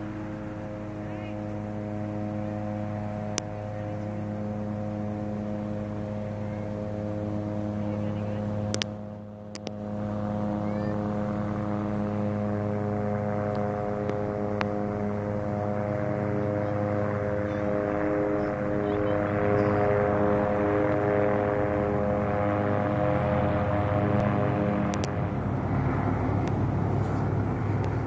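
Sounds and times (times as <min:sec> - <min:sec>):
steady mechanical drone: 0:00.0 - 0:28.0.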